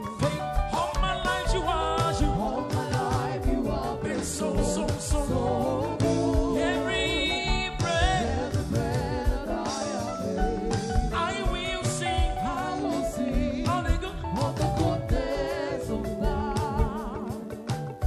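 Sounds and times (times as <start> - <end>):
band with keyboard and drums: 0.0 - 18.0
person singing: 0.0 - 18.0.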